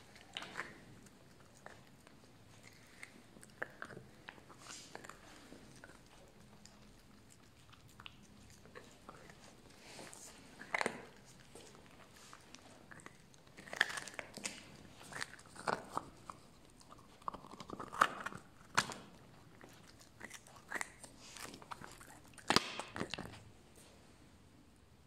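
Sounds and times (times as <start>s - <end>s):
puppy crunching on bone: 0.0s - 23.6s.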